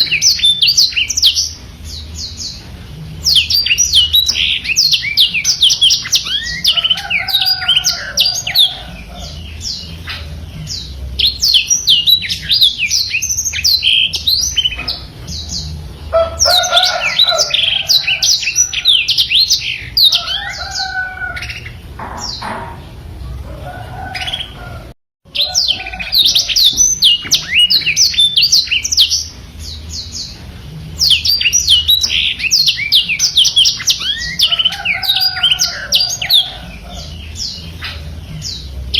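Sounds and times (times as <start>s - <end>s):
canary singing rapid chirps and trills: 0.0s - 38.9s.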